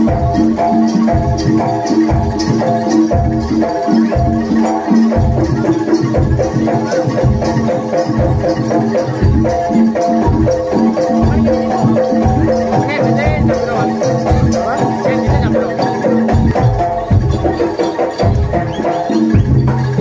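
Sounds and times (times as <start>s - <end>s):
metallophones ringing a melody: 0.0s - 20.0s.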